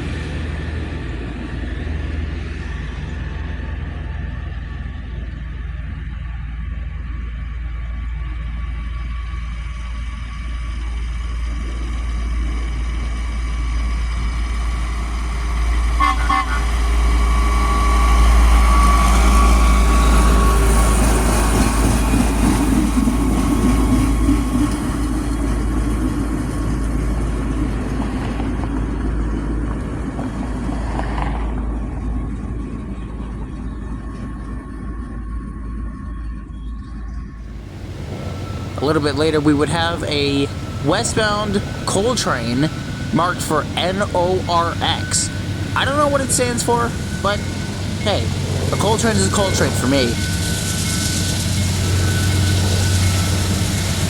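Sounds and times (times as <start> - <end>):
train passing: 0.0 - 36.5, 37.2 - 54.0.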